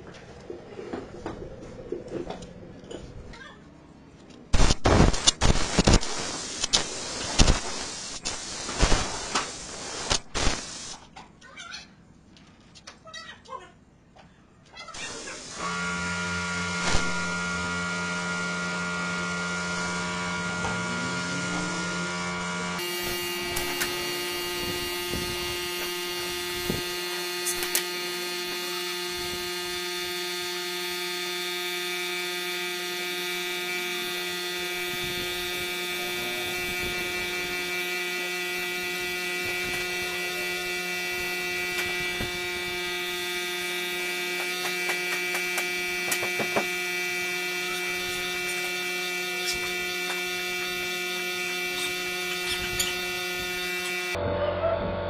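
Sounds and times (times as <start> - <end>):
air compressor humming: 6.1 - 11.0, 15.0 - 54.2.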